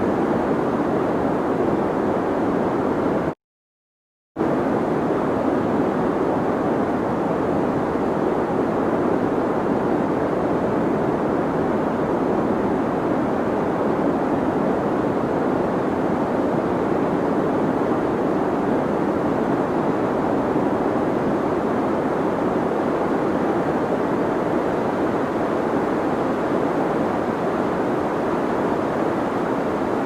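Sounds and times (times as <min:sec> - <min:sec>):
low rushing white noise: 0:04.4 - 0:30.0.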